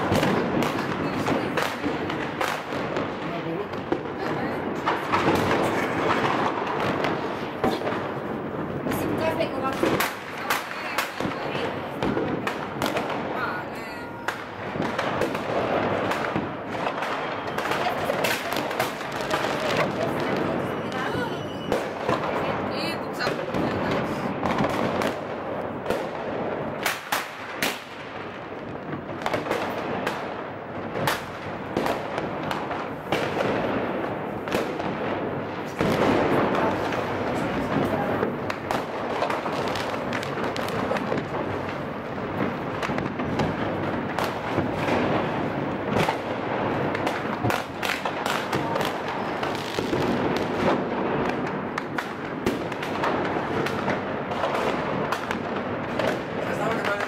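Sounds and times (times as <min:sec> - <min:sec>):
fireworks crackling: 0:00.0 - 0:57.0
loud firecracker bangs: 0:00.0 - 0:57.0.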